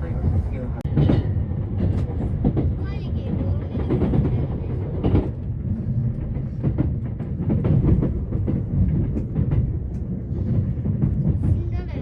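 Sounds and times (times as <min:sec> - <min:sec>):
train rumble inside car: 0:00.0 - 0:12.0.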